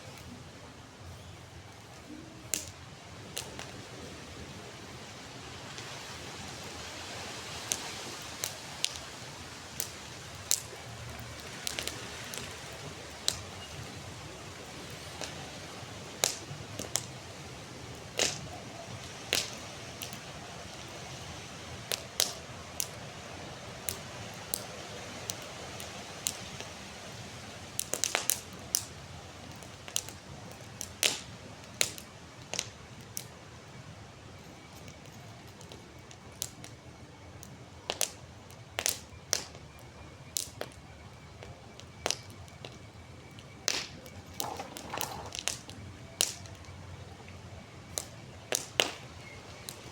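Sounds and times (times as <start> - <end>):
campfire hissing: 0.0 - 49.9
fire cracks and pops: 0.0 - 49.9.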